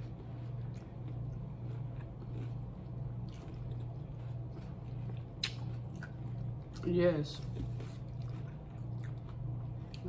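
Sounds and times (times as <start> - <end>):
low steady hum: 0.0 - 10.0
people chewing: 0.0 - 10.0.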